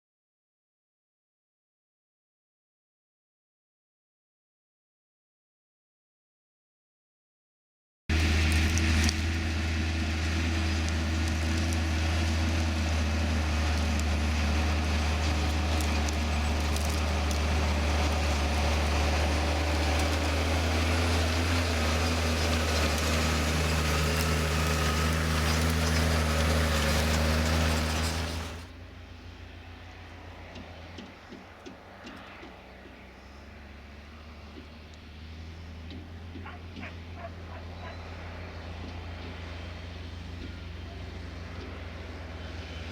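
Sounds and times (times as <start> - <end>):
tractor diesel engine running: 8.1 - 42.9.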